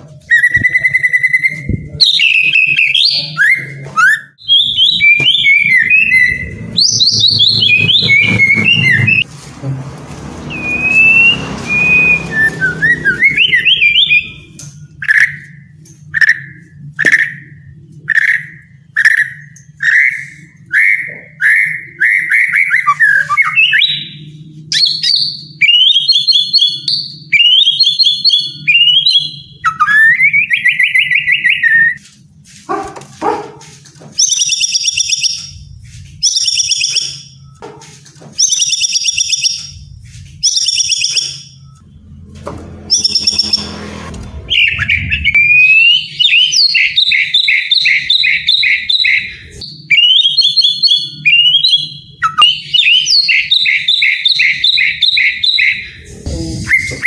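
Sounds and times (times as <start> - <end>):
bird singing varied song: 0.3 - 9.2, 10.5 - 32.0, 34.2 - 37.6, 38.4 - 42.2, 42.9 - 43.8, 44.4 - 57.0.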